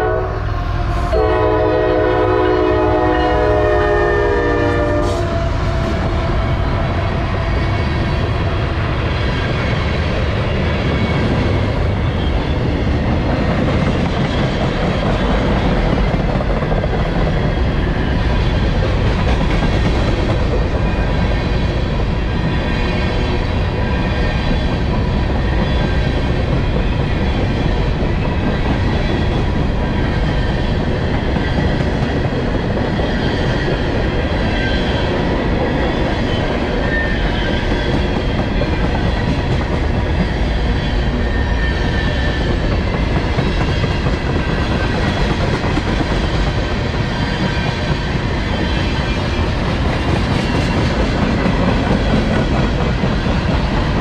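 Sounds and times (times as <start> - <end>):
freight train wheels clattering: 4.5 - 54.0.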